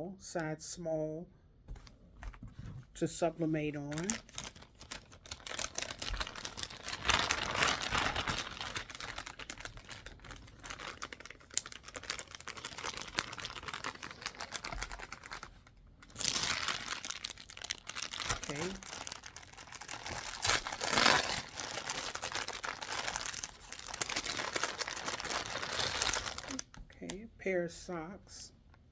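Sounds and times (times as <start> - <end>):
plastic packaging crinkling: 3.8 - 27.1.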